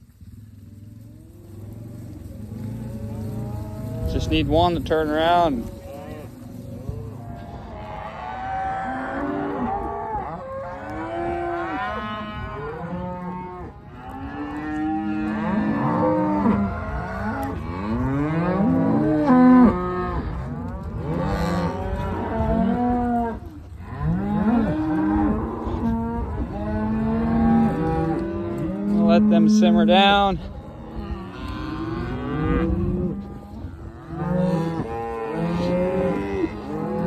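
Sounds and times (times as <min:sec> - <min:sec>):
cows mooing and bawling: 0:00.0 - 0:37.0.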